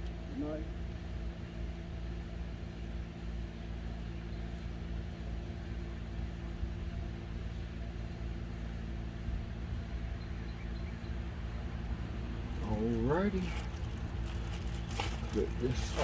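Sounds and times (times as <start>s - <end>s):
low mechanical hum with rumble: 0.0s - 16.0s.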